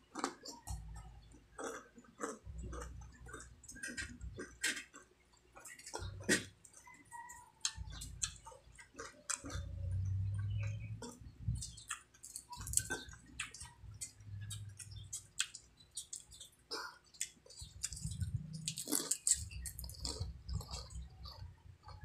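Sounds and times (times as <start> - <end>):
chewing crispy chicken skin: 0.0 - 22.0.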